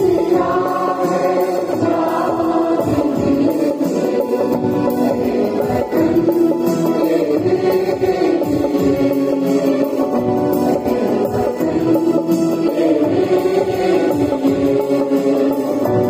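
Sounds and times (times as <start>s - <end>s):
mixed choir singing: 0.0s - 16.0s.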